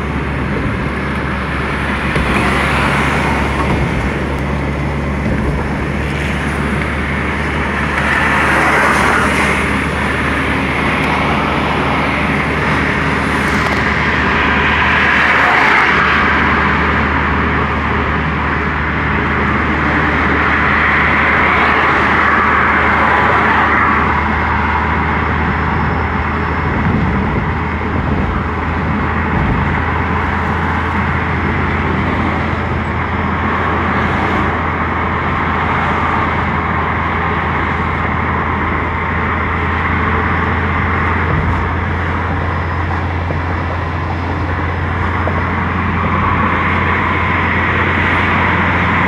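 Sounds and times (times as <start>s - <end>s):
car cabin road drone: 0.0s - 49.0s.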